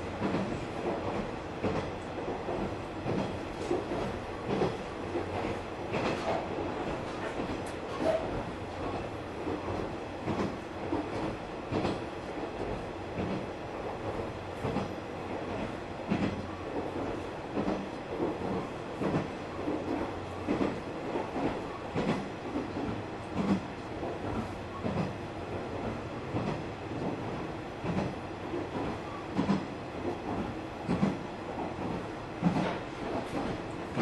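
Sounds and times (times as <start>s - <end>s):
railcar engine drone: 0.0s - 34.0s.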